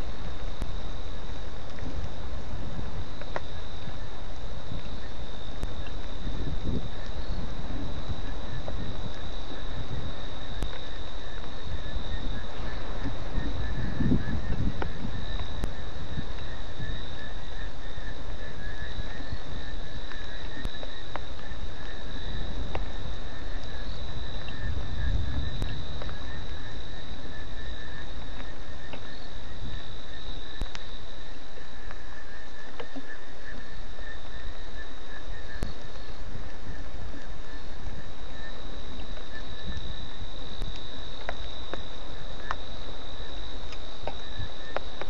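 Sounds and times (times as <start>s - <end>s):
insects trilling: 0.0s - 45.0s
steady hiss: 0.0s - 45.0s
scattered ticks: 3.0s - 45.0s.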